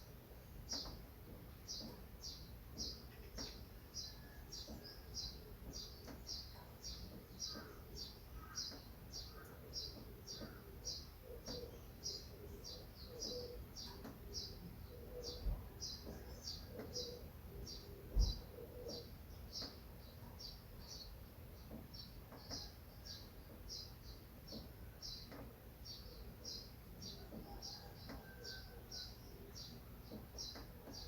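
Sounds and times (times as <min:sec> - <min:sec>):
bird chirping: 0:00.5 - 0:31.0.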